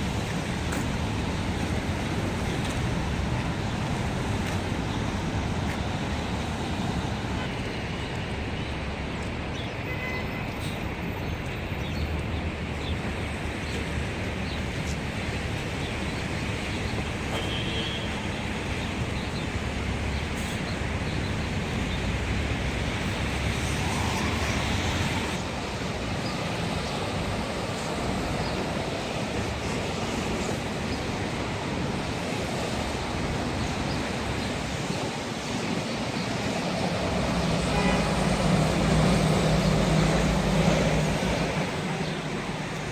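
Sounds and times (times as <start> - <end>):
city street traffic: 0.0 - 42.9.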